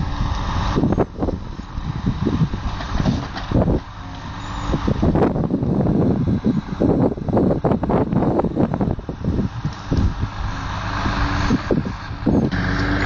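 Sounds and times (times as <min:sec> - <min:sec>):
diesel truck engine running: 0:00.0 - 0:13.0
wind buffeting microphone: 0:00.0 - 0:13.0.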